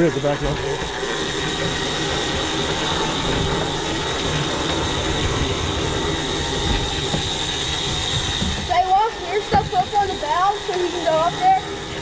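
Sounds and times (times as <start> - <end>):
boat engines running: 0.0 - 12.0
thin steady whine: 0.0 - 12.0
water wash: 0.0 - 12.0
wind: 0.0 - 12.0.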